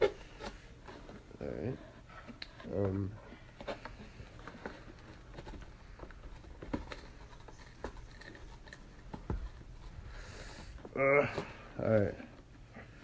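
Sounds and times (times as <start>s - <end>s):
hands handling cardboard box: 0.0s - 12.6s.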